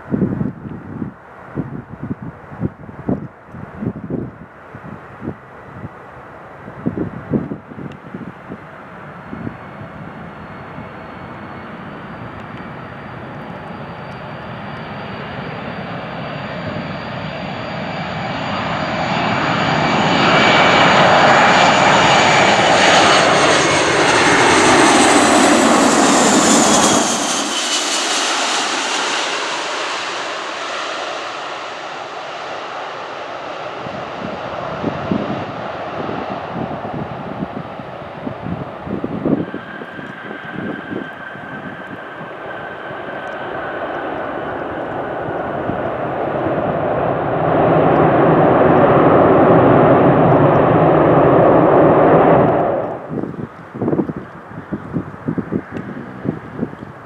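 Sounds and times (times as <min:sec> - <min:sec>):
jet airliner flying overhead: 0:00.0 - 0:57.0.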